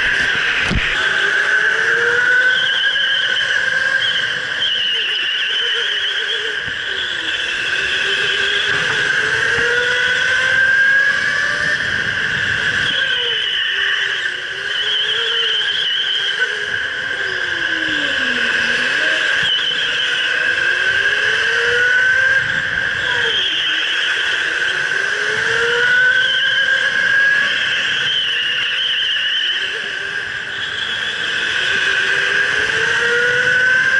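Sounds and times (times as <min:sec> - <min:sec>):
electric go-kart motor whining: 0:00.0 - 0:33.9
other go-karts whining: 0:00.0 - 0:33.9.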